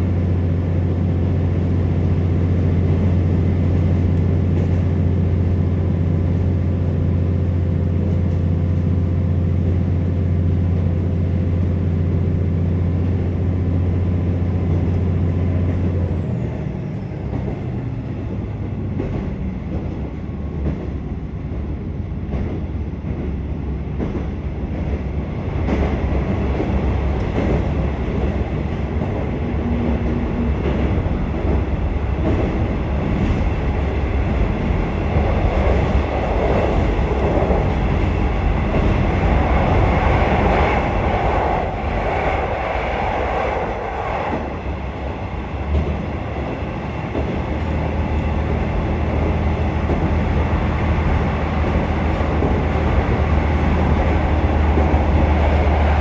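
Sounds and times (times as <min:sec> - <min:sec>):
wheels rumbling on rails: 0:00.0 - 0:56.0.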